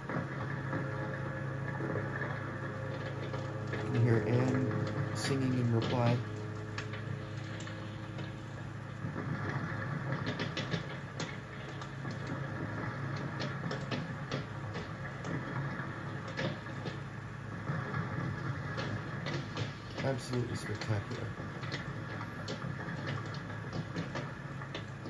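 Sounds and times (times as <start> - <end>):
fireworks popping and crackling: 0.0 - 25.0
steady low drone: 0.0 - 25.0.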